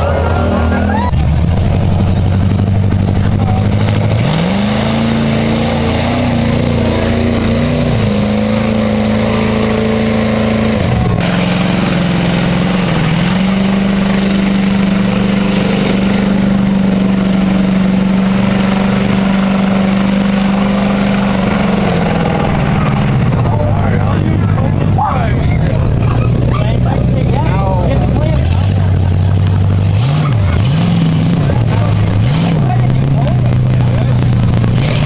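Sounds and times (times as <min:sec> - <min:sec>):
truck engine revving high: 0:00.0 - 0:35.0.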